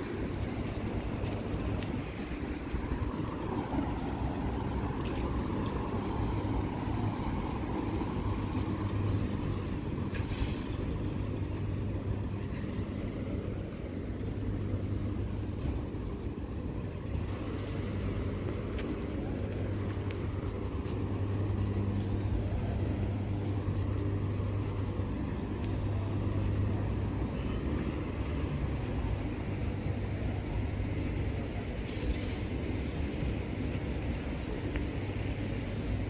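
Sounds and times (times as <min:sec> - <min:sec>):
road traffic hum: 0:00.0 - 0:36.0.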